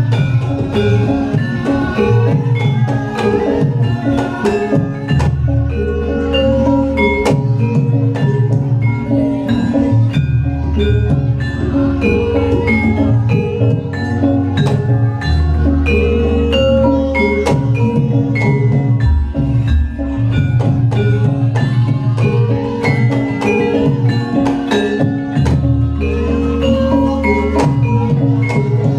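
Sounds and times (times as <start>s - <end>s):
metal percussion music: 0.0s - 28.9s.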